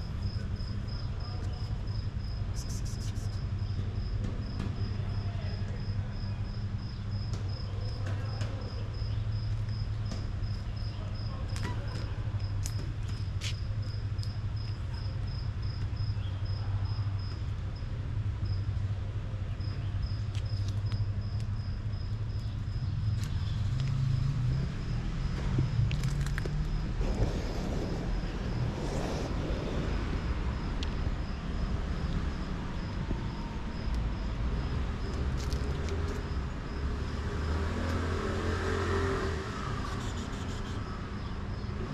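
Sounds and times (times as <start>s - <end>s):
cricket chirping: 0.0s - 41.9s
low traffic hum: 0.0s - 41.9s.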